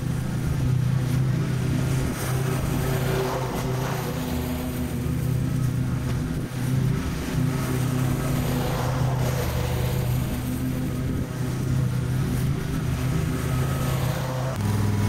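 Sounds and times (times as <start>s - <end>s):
mower engine running: 0.0s - 15.0s.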